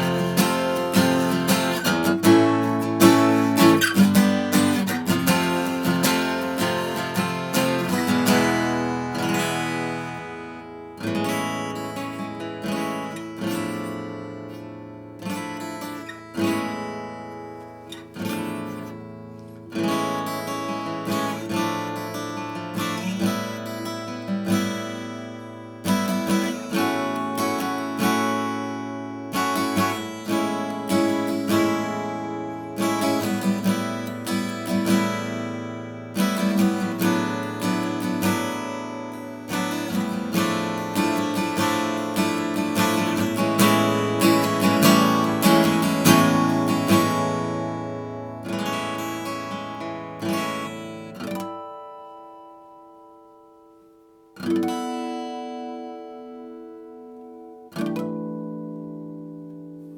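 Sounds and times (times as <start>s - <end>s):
acoustic guitar strummed and picked: 0.0s - 59.9s.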